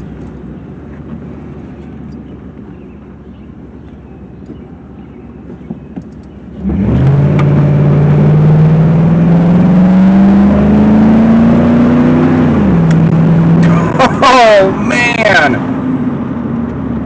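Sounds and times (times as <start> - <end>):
truck engine accelerating: 0.0 - 17.0.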